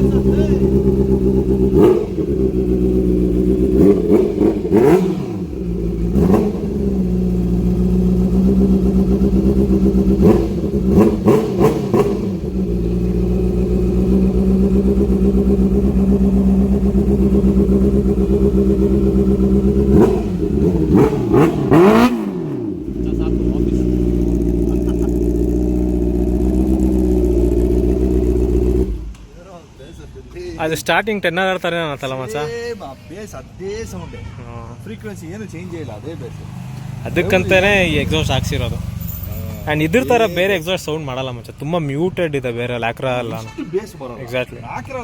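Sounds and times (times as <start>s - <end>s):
motorcycle engine idling and revving: 0.0s - 30.8s, 32.0s - 43.3s.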